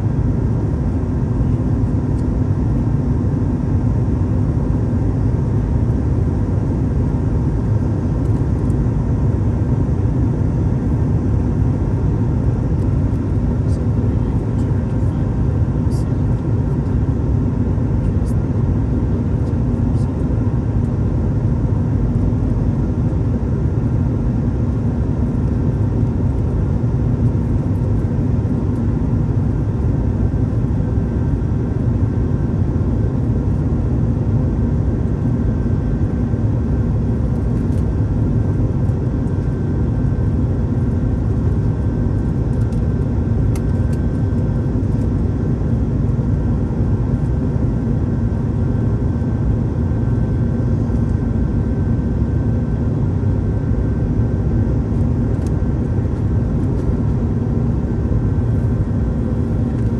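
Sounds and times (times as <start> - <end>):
airplane cabin engine rumble: 0.0 - 59.9
faint steady whine: 0.0 - 59.9.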